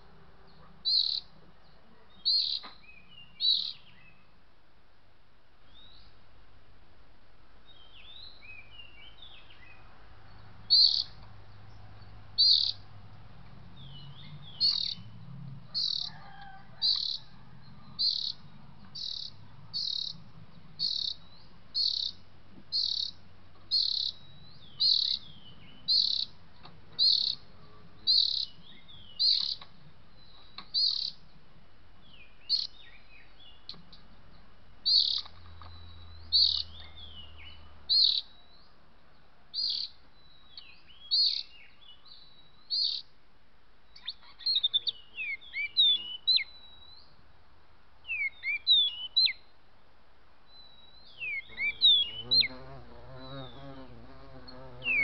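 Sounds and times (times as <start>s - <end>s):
soft gliding bird calls: 0.0s - 4.4s, 7.7s - 13.0s, 13.7s - 31.4s, 32.0s - 43.2s, 43.9s - 47.3s, 48.0s - 49.6s, 50.4s - 55.0s.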